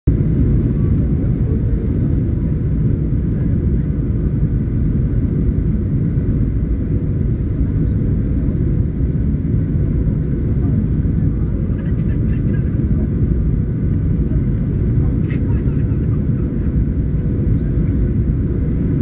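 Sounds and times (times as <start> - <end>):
aircraft cabin engine rumble: 0.1 - 19.0.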